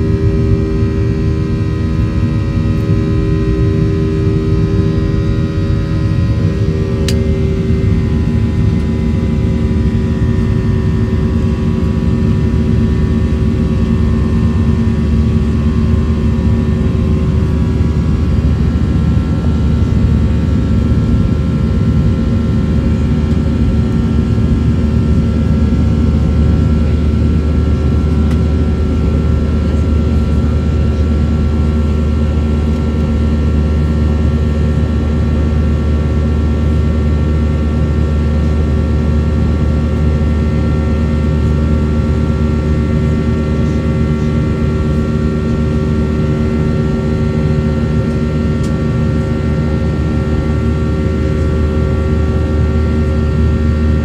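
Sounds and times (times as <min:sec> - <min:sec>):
jet engines in aircraft cabin: 0:00.0 - 0:54.0
steady hums: 0:00.0 - 0:54.0.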